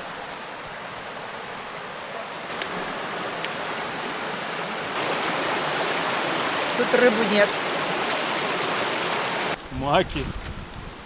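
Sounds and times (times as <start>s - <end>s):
stream water rushing: 0.0s - 9.7s.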